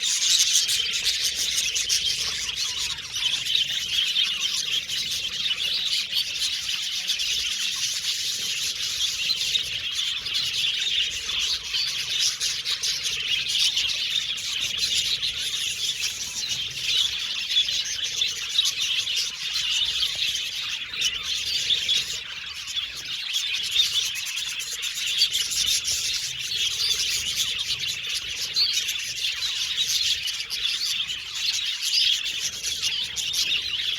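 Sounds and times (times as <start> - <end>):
budgerigars chirping: 0.0 - 33.9.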